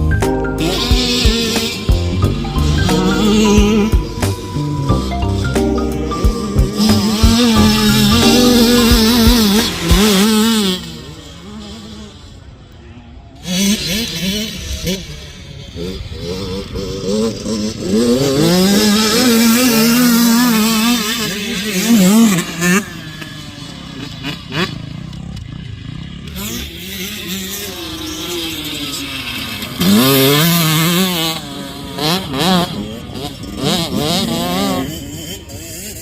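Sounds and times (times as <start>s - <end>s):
dirt bike engines revving: 0.0s - 36.0s.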